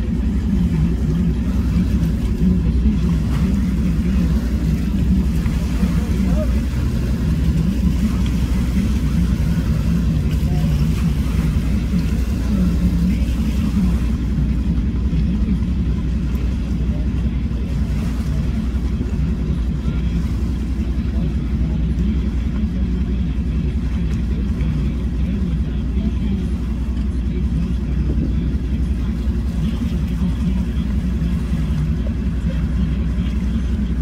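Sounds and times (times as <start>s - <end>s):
outboard motor running: 0.0s - 34.0s
pickup truck idling: 0.0s - 34.0s.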